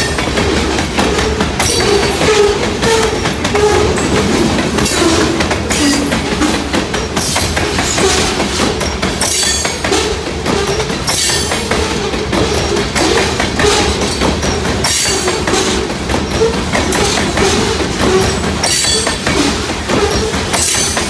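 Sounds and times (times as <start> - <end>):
wheels clacking over rail joints: 0.0 - 21.0.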